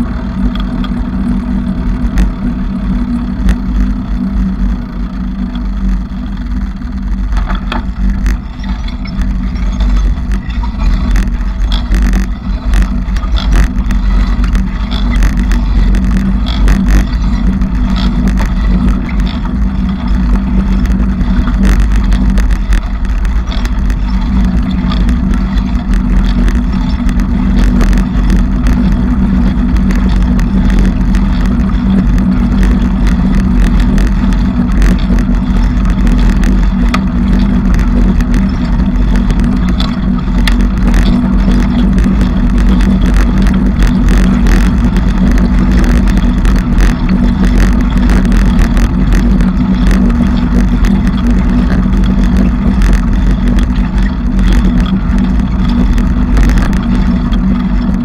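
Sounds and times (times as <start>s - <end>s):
bicycle riding rumble and rattles: 0.0s - 58.0s.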